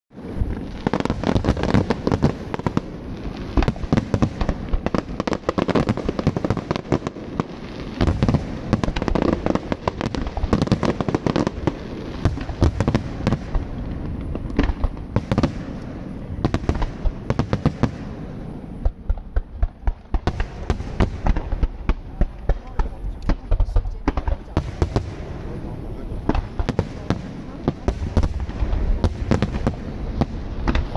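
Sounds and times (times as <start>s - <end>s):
fireworks booming and crackling: 0.1s - 30.9s.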